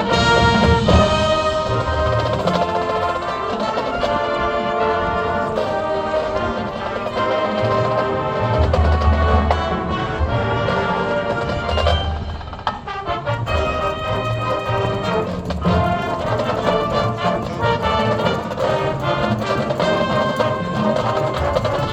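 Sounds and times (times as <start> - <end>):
marching band playing: 0.0 - 21.9.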